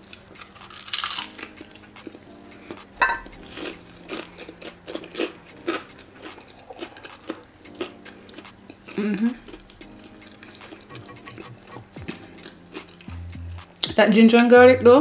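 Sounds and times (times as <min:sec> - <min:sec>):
person chewing crispy chicken: 0:00.0 - 0:13.1.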